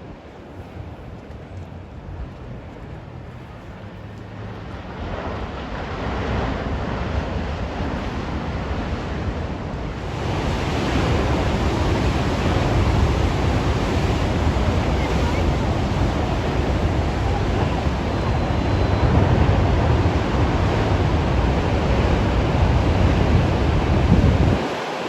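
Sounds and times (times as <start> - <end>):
wind buffeting microphone: 0.0 - 25.0
ocean waves breaking: 2.0 - 25.0.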